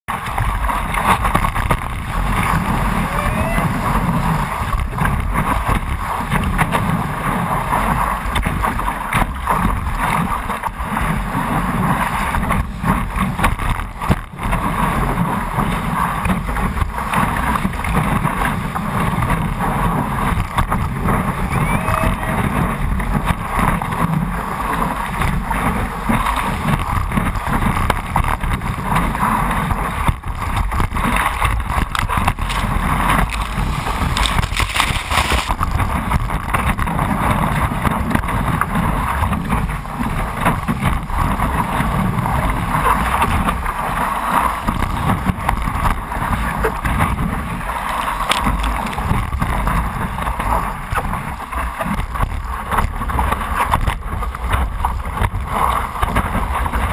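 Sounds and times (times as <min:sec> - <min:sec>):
water rushing and splashing: 0:00.1 - 0:56.9
wind buffeting microphone: 0:00.1 - 0:56.9.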